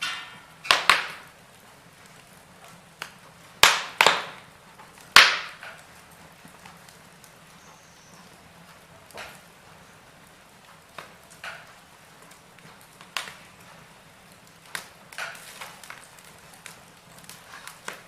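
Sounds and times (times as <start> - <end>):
faint steady hiss: 0.0 - 18.0
wood fire crackling pops: 0.0 - 18.0.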